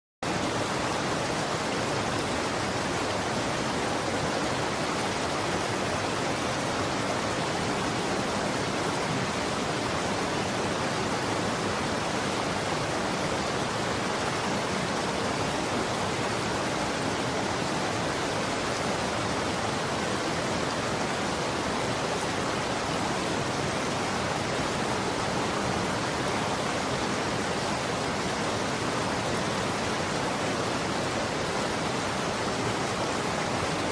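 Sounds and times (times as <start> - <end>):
running water rushing: 0.2 - 33.9.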